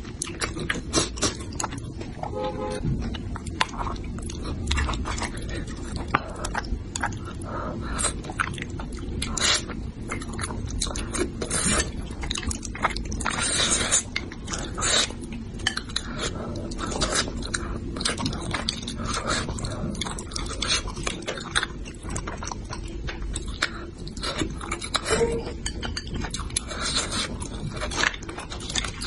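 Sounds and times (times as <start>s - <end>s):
wet chewing and smacking: 0.0s - 29.0s.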